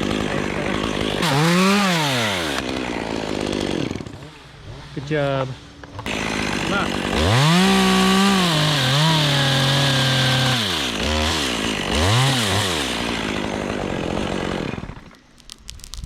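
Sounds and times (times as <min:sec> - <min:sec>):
chainsaw cutting wood: 0:00.0 - 0:05.0, 0:06.0 - 0:16.0.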